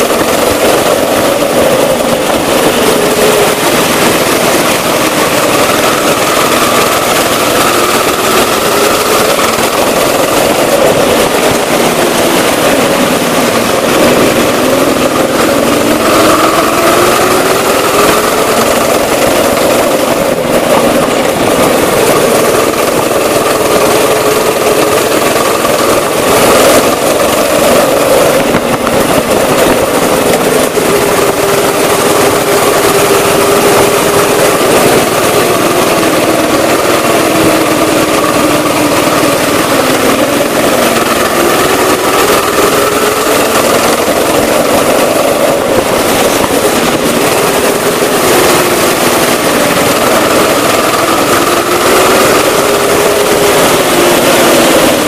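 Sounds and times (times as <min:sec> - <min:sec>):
go-kart engine revving: 0:00.0 - 0:55.0
loud rushing noise: 0:00.0 - 0:55.0.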